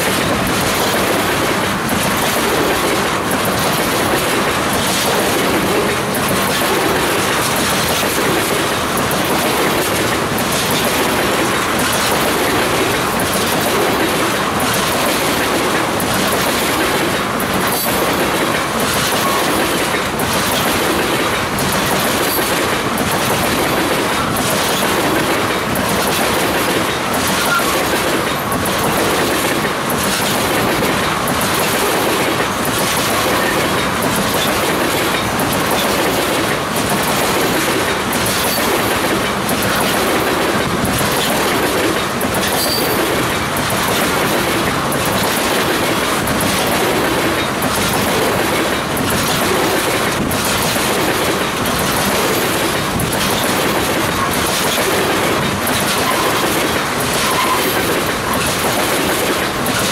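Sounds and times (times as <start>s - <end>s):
steel wheels rumbling on rail: 0.0s - 59.9s
wheels clickety-clack: 0.0s - 59.9s.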